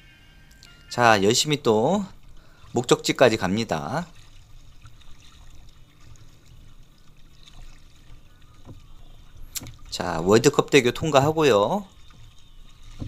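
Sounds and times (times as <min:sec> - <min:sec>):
low steady rumble: 0:00.0 - 0:13.0
paddle strokes: 0:00.6 - 0:13.0
water lapping against kayak: 0:00.9 - 0:13.0.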